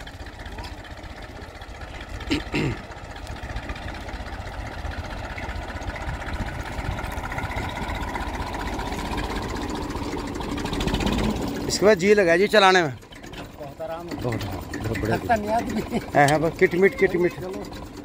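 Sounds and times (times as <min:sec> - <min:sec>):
tractor engine chugging: 0:00.0 - 0:18.0.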